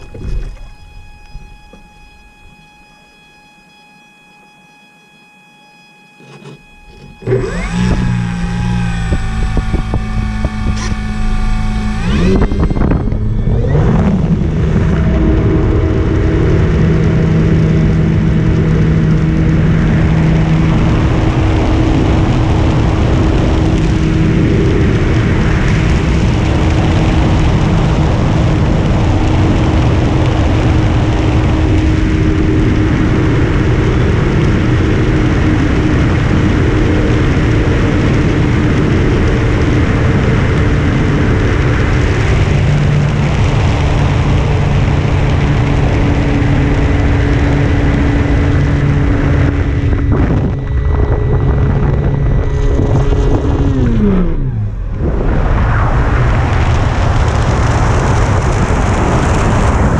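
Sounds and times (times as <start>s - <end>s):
wind rush over microphone: 0.0s - 2.6s, 7.2s - 59.9s
electric motor and propeller: 0.0s - 59.9s.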